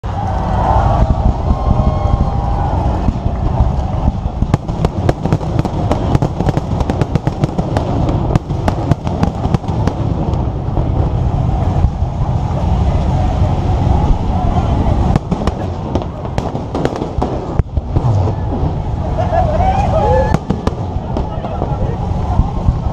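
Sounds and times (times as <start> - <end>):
fireworks cracking: 0.0 - 22.9
low rumble: 0.0 - 22.9.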